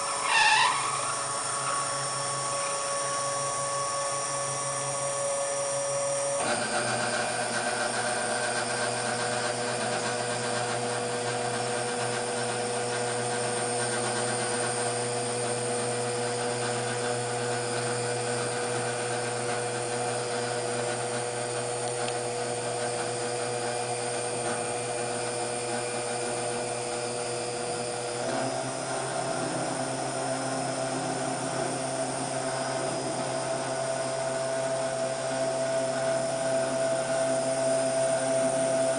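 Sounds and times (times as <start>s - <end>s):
machine motors whining: 0.0s - 38.9s.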